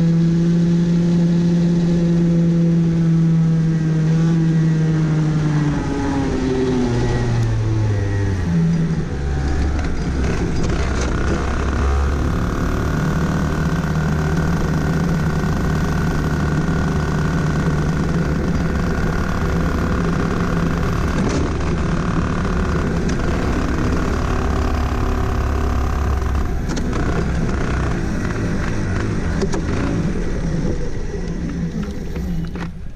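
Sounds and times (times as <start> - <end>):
kart engine slowing: 0.0 - 32.9.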